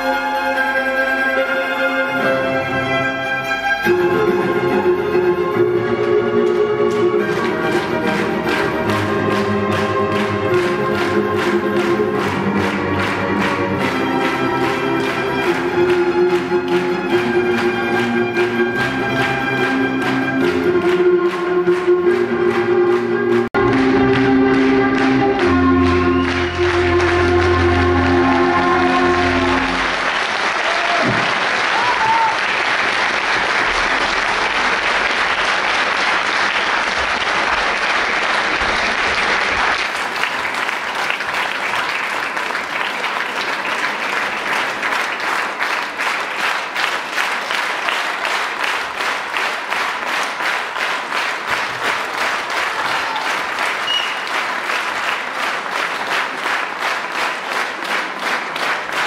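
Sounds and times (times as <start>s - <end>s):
rhythmic clapping in unison: 3.6s - 59.0s
large audience applauding: 3.8s - 59.0s.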